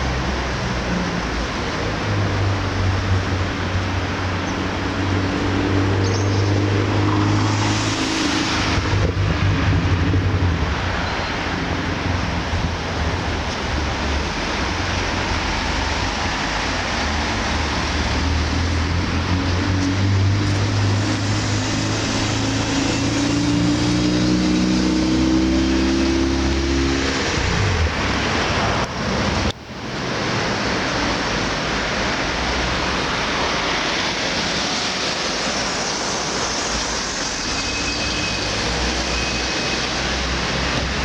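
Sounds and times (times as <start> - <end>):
road noise: 0.0 - 41.0.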